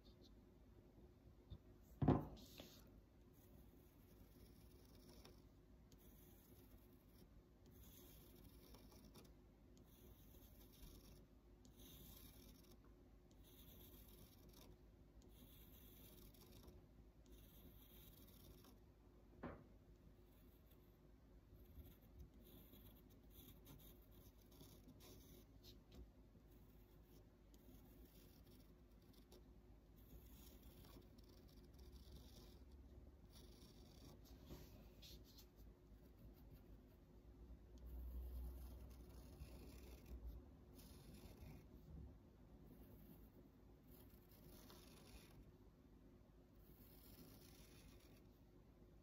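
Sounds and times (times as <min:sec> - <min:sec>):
pencil scratching on paper: 0:02.1 - 0:18.8, 0:20.2 - 0:41.9, 0:42.7 - 0:45.5, 0:46.6 - 0:48.4.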